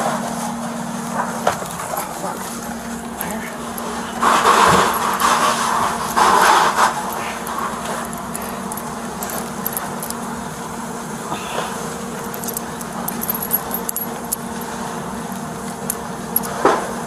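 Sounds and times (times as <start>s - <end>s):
steady low hum: 0.0s - 17.0s
chain clank: 1.5s - 10.5s, 12.0s - 16.8s
metal chain rattling: 1.5s - 11.0s, 12.0s - 16.6s.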